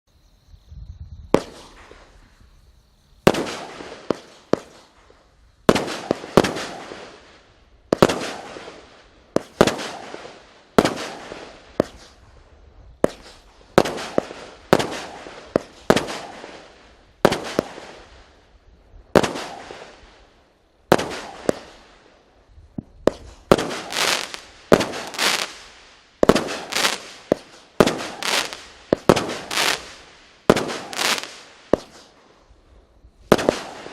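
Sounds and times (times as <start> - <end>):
firework bursts: 1.3 - 2.4, 3.2 - 32.5, 33.2 - 33.9
firework launches: 1.3 - 2.4, 3.2 - 18.5, 19.1 - 22.1, 22.7 - 32.5, 33.2 - 33.9.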